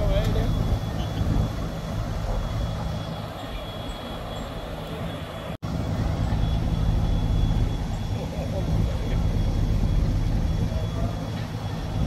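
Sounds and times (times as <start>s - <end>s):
diesel engines low rumble: 0.0s - 12.0s
thin high whine: 0.0s - 12.0s.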